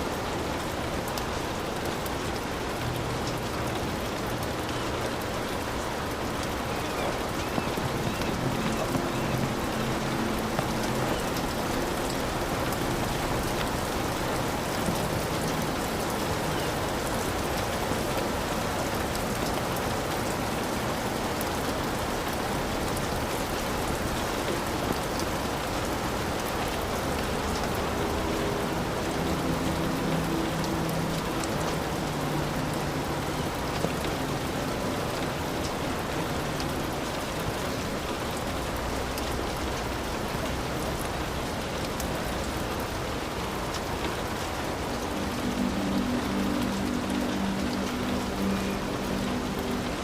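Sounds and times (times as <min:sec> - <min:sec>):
heavy rain on a hut: 0:00.0 - 0:50.0.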